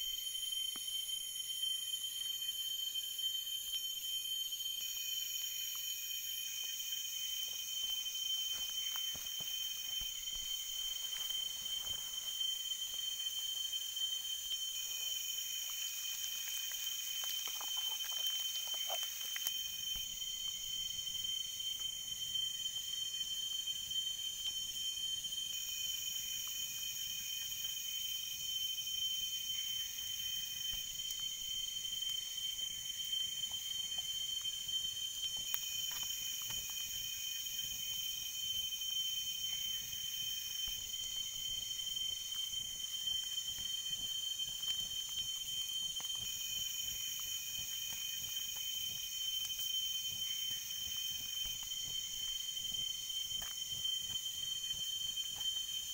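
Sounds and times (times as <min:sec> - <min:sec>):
insects calling: 0:00.0 - 0:55.9.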